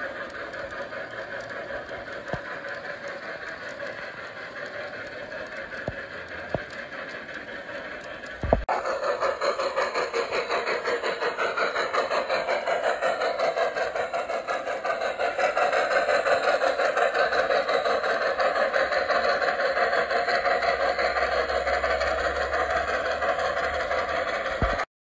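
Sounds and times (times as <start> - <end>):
model train rattling on track: 0.0 - 24.9.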